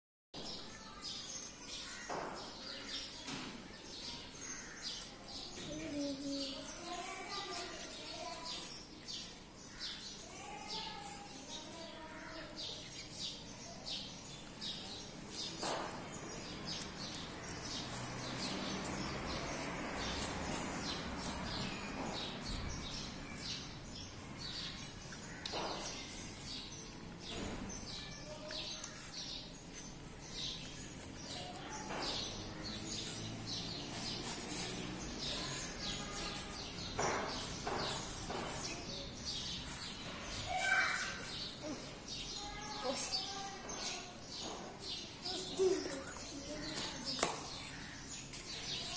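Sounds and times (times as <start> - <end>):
birds chirping: 0.4 - 48.9.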